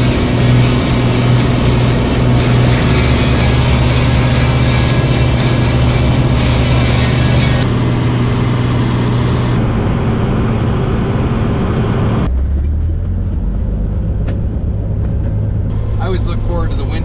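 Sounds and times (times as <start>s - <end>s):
propeller engine drone: 0.0s - 17.0s.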